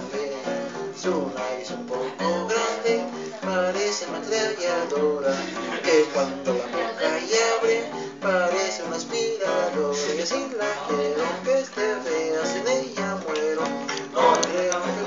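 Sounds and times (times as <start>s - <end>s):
acoustic guitar strumming: 0.0s - 15.0s
person singing: 0.0s - 15.0s.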